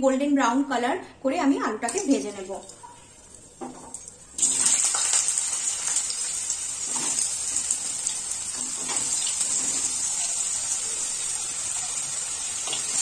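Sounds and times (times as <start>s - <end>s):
potatoes sizzling in hot oil: 1.9s - 13.0s.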